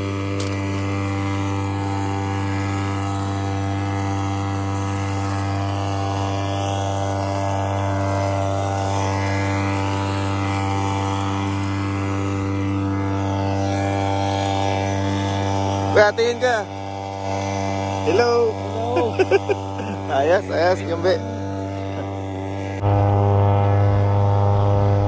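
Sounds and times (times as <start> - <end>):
outboard motor buzzing: 0.0 - 25.0.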